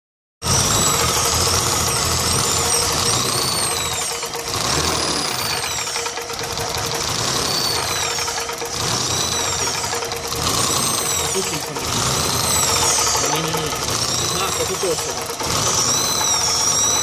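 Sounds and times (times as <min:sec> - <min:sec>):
car engine running: 0:00.4 - 0:17.0
fast steady engine knock: 0:00.4 - 0:17.0.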